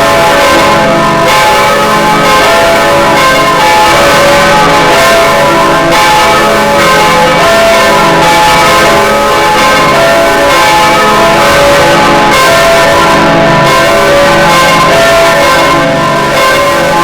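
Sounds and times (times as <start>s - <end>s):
church bell ringing: 0.0s - 17.0s.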